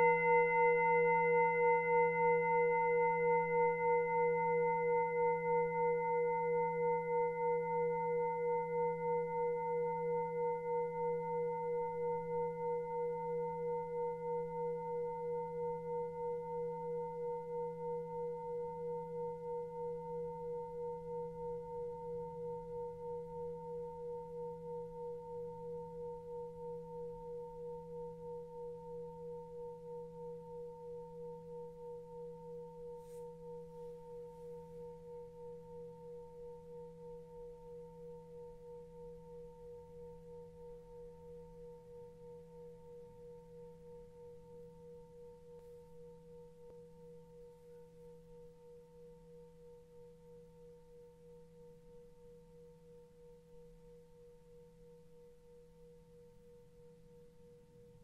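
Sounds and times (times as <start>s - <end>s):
singing bowl ringing: 0.0s - 54.9s.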